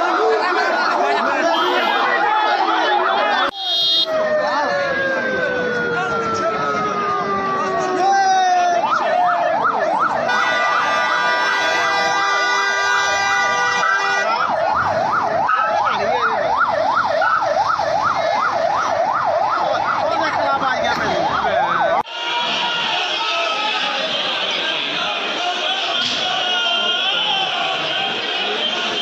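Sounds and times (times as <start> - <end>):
crowd noise in a hall: 0.0 - 20.0, 20.8 - 29.0
siren yelping: 0.0 - 24.2.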